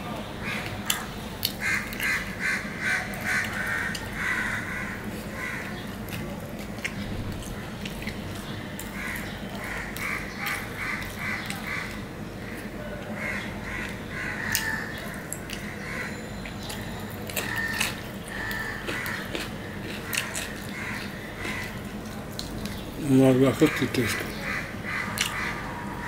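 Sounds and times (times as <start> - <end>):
bird harsh calls: 0.3 - 6.1, 6.9 - 22.0, 22.6 - 26.0.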